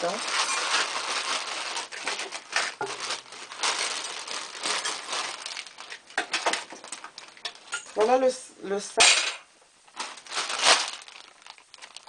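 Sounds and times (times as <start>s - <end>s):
shopping bag rustling: 0.0s - 8.0s, 10.0s - 12.0s.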